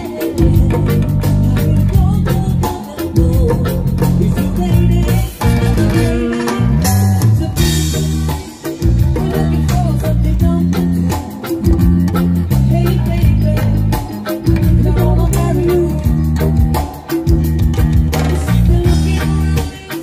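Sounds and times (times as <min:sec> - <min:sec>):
drum kit: 0:00.0 - 0:20.0
electric bass guitar: 0:00.0 - 0:20.0.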